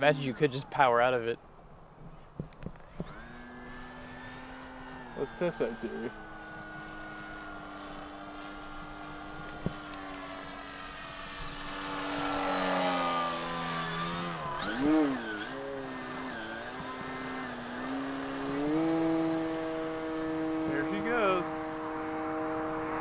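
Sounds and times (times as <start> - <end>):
electric motor and propeller whining: 2.1 - 23.0.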